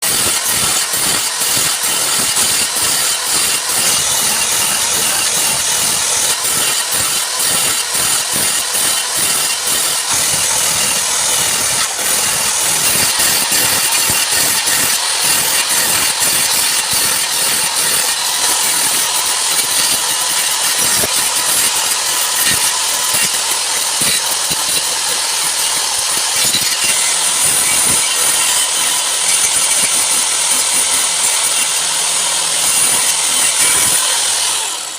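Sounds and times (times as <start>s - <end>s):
woodworking power tool hissing: 0.0s - 34.9s.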